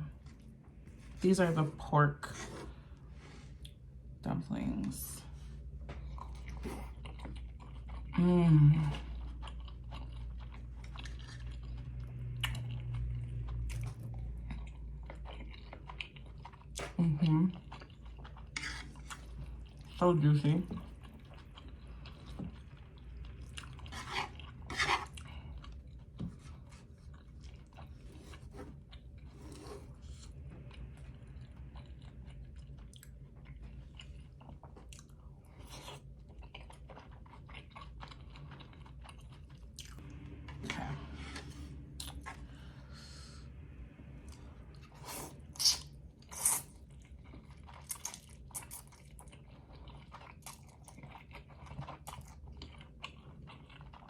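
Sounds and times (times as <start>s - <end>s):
low steady hum: 0.0s - 54.0s
person chewing noodles: 5.9s - 8.2s, 9.1s - 20.0s, 20.7s - 54.0s.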